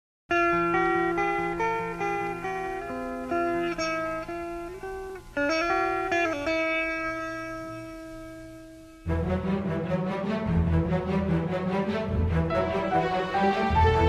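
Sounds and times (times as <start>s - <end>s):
plucked string melody: 0.3s - 14.0s.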